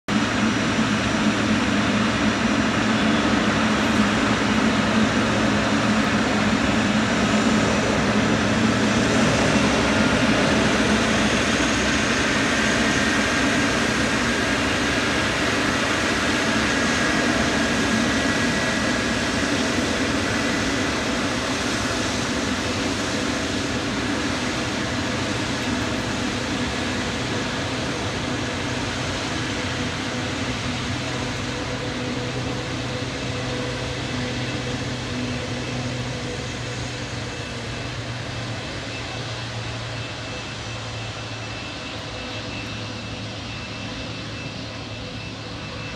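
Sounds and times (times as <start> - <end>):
jet engine rumble: 0.1 - 45.9.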